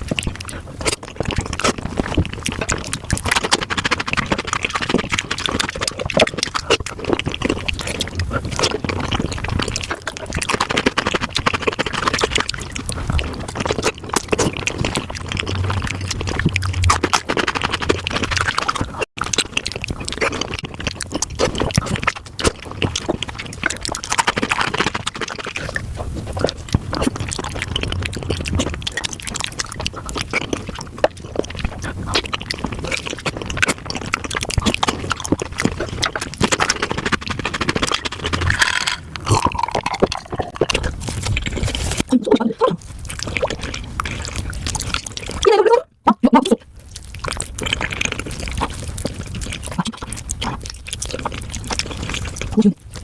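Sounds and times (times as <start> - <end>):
sped-up wet chewing and slurping: 0.0 - 53.0.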